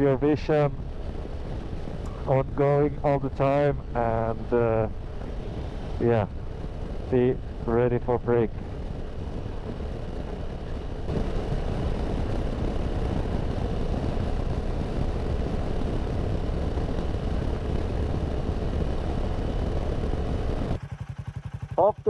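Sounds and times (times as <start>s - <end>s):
motorcycle engine cruising: 0.0s - 3.1s, 3.8s - 22.0s
rushing wind: 0.0s - 20.8s.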